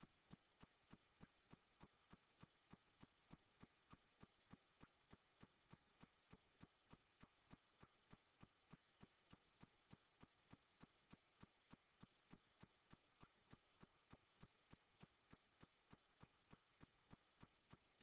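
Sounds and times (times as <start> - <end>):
faint steady ticking: 0.0 - 18.0.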